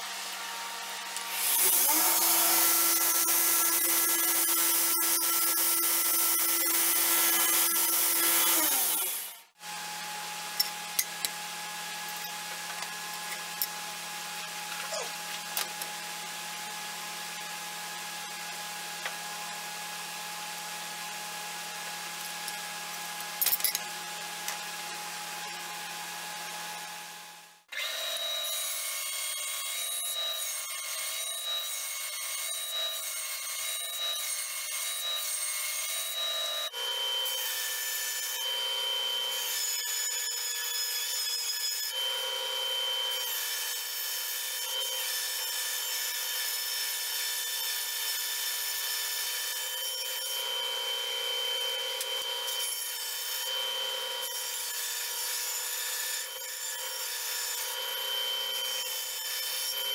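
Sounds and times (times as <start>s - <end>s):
band saw cutting wood: 0.0s - 20.1s, 27.7s - 42.1s, 43.1s - 59.9s.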